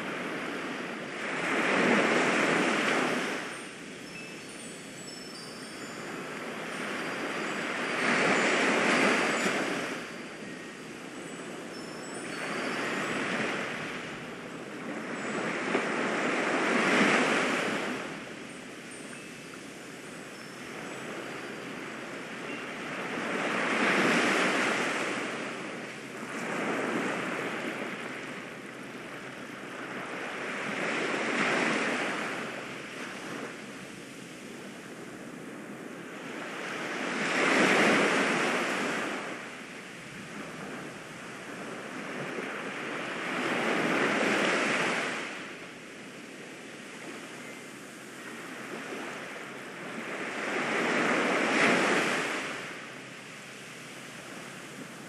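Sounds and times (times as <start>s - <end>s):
ocean waves washing onto shore: 0.0s - 55.0s.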